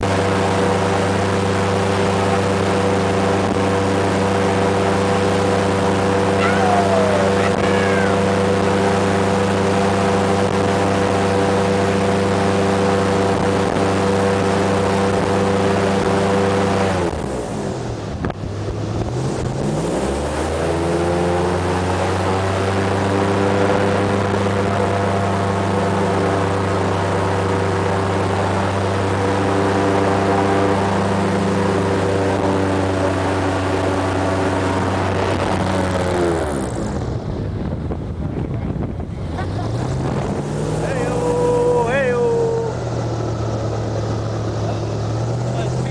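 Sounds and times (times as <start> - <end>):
airboat engine and propeller: 0.0 - 45.9.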